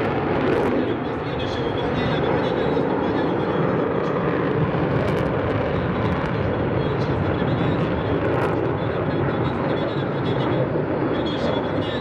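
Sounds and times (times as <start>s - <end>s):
distant jet engines rushing: 0.0s - 12.0s.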